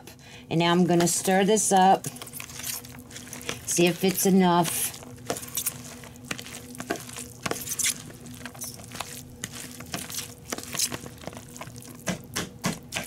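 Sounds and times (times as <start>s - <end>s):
faint steady hum: 0.0s - 13.0s
wet squishing and scraping: 0.9s - 13.0s.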